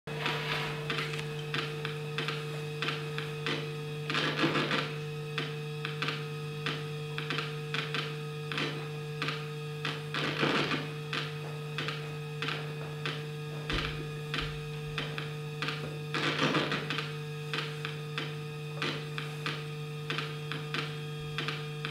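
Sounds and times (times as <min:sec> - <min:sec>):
clicks and crackles: 0:00.2 - 0:21.9.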